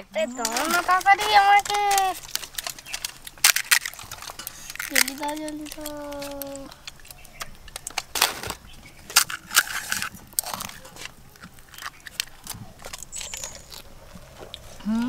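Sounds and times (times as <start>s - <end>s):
crisp shells cracking: 0.2s - 15.0s.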